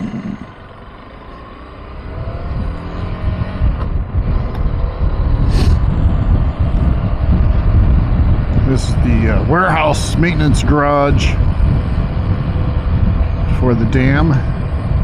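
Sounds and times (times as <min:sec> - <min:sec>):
motorcycle engine revving: 0:00.0 - 0:15.0
wind rumble on microphone: 0:01.9 - 0:15.0.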